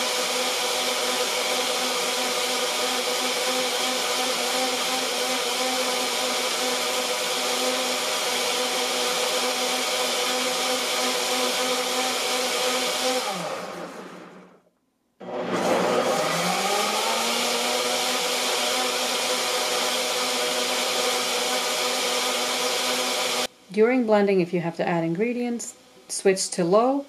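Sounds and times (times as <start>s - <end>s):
blender motor running: 0.0s - 14.6s, 15.2s - 23.5s.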